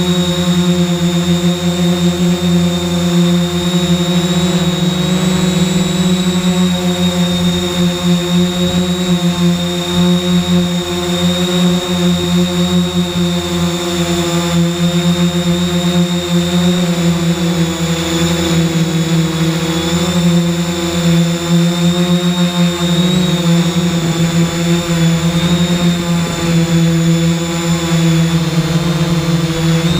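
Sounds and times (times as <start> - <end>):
drone propellers whirring: 0.0 - 29.9.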